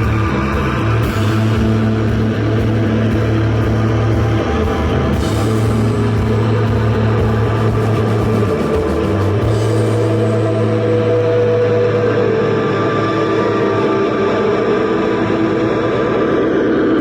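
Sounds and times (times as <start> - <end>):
live rock band playing: 0.0 - 16.4
low droning note: 0.0 - 17.0.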